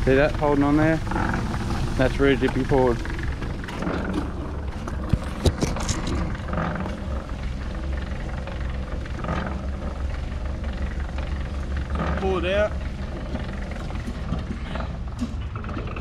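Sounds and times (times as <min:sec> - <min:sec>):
cement mixer running: 0:00.0 - 0:16.0.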